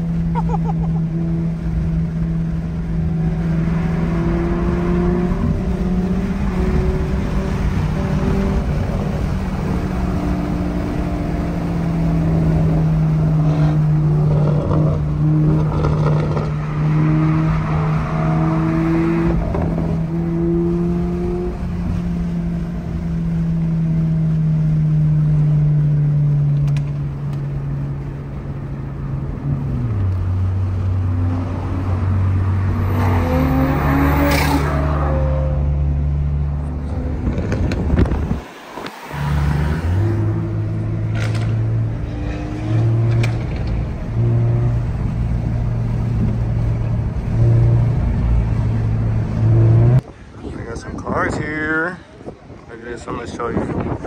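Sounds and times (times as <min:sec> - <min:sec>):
car engine droning: 0:00.0 - 0:50.3
road noise: 0:00.0 - 0:54.0.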